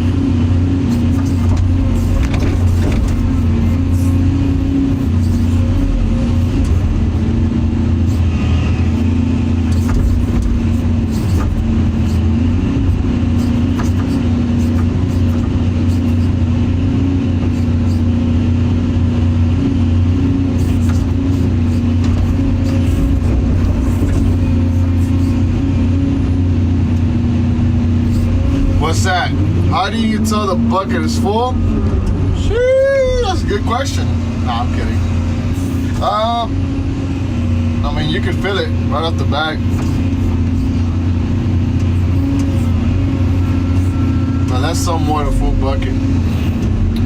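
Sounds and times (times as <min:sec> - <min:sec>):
excavator diesel engine drone: 0:00.0 - 0:47.0.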